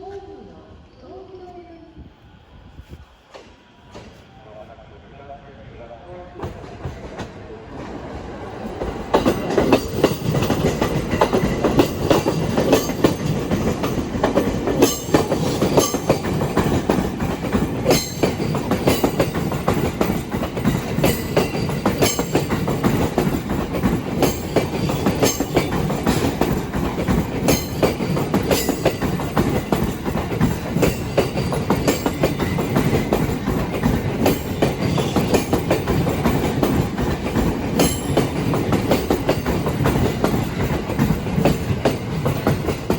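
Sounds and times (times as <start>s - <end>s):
rumble of train cars: 0.0s - 42.9s
train wheels clickety-clack: 6.4s - 42.9s.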